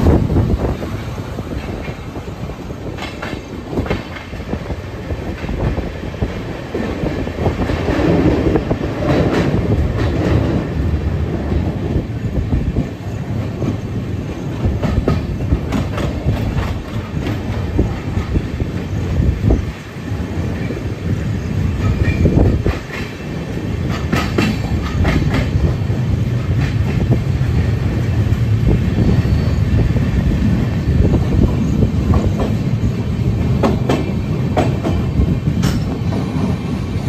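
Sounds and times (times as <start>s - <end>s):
train wheel clacks: 0.0s - 37.0s
train wheels rumbling on rails: 0.0s - 37.0s.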